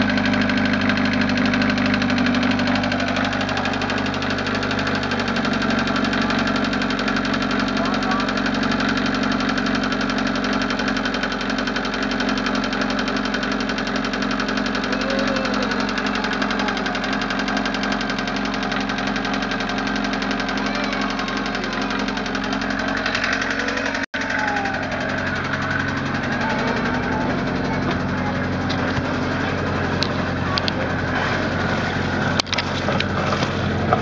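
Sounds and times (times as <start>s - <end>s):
diesel engine running: 0.0s - 34.0s
fast rhythmic engine tapping: 0.0s - 34.0s.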